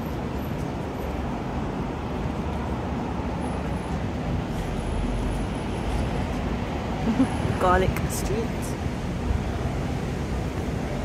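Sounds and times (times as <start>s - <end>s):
cars passing: 0.0s - 11.0s
deep traffic rumble: 0.0s - 11.0s.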